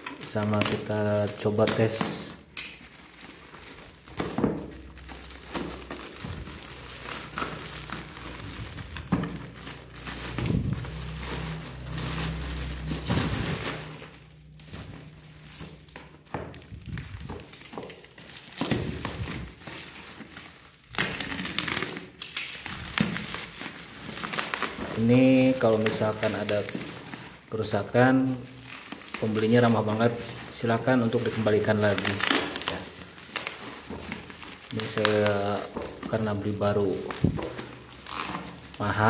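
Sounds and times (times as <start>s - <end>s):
plastic bag and tape tearing: 0.0s - 39.0s.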